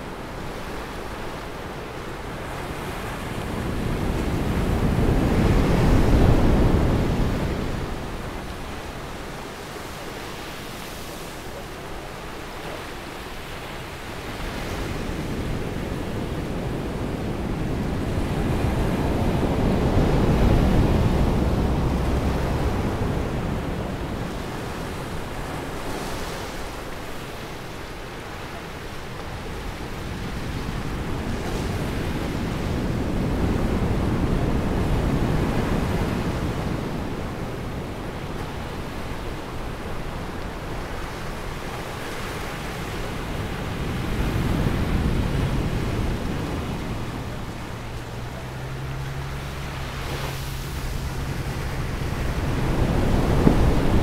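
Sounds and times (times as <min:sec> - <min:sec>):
waves washing onto sandy beach: 0:00.0 - 0:54.0.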